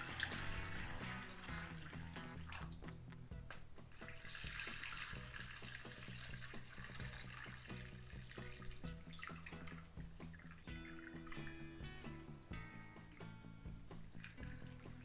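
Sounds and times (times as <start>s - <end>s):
water running into a pot: 0.0s - 3.0s, 3.9s - 15.0s
background music: 0.0s - 15.0s.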